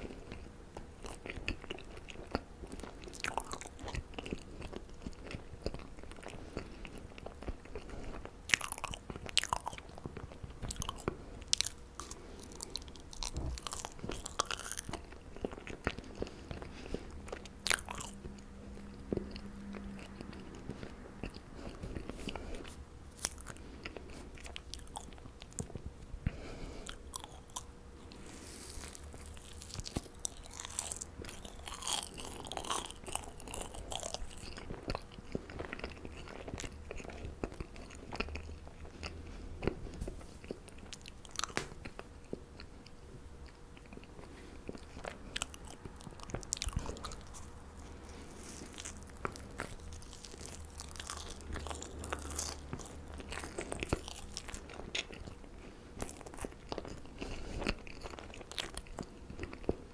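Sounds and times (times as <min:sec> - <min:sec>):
chewing marshmallows: 0:00.0 - 0:59.9.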